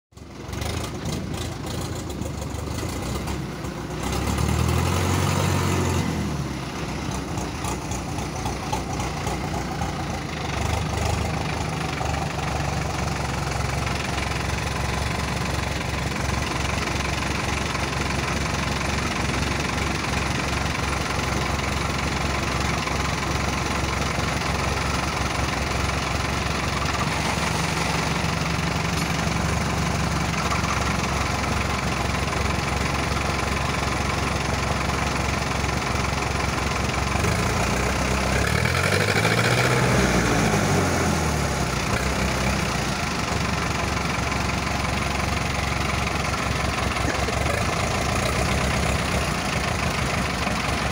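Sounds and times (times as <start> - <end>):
diesel tractor engines revving: 0.2 - 50.9.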